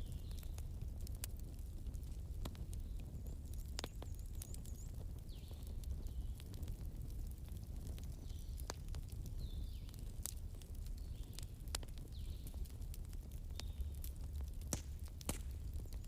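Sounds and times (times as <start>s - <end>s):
bonfire rumble: 0.0s - 16.0s
burning wood crackling and popping: 0.0s - 16.0s.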